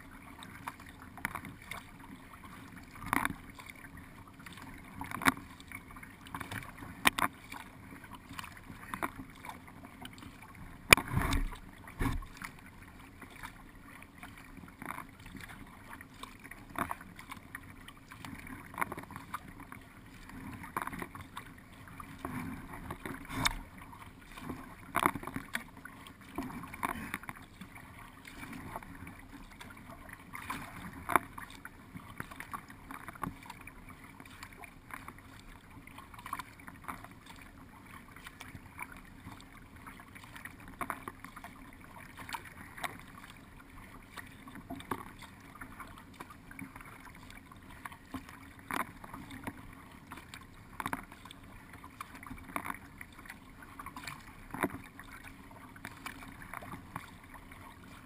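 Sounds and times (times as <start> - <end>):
paddle splashing in water: 0.0 - 58.0
water washing along hull: 0.0 - 58.0.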